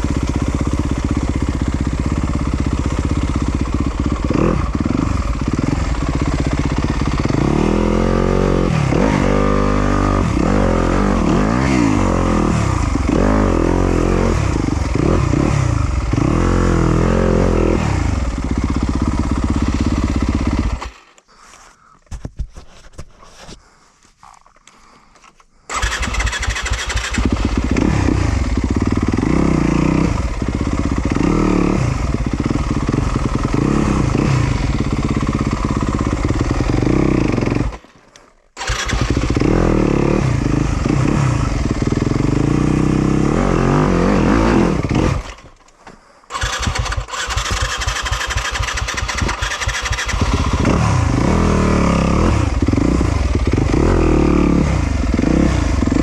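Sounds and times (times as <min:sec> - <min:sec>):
dirt bike engine revving: 0:00.0 - 0:21.2, 0:25.7 - 0:37.9, 0:38.6 - 0:56.0.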